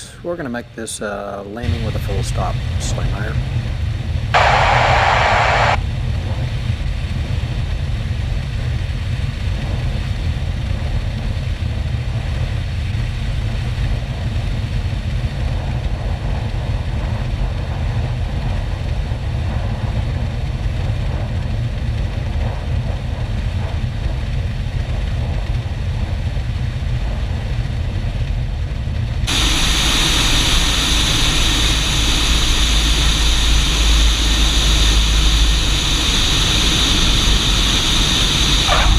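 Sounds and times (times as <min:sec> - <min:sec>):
airplane engine and propeller droning: 0:00.0 - 0:38.9.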